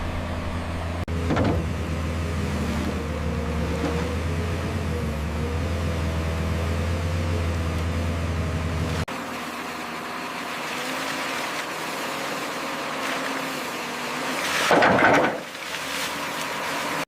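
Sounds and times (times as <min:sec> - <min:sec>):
heavy diesel machinery engine: 0:00.0 - 0:17.0.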